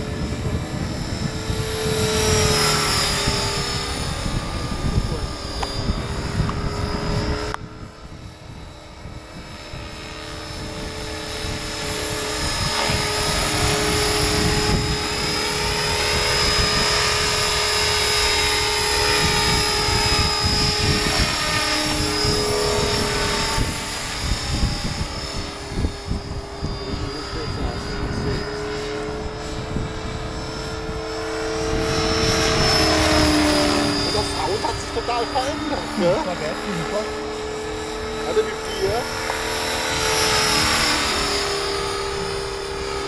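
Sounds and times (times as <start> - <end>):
rc helicopter motor whine: 0.0 - 43.0
rotors whirring: 0.0 - 43.0.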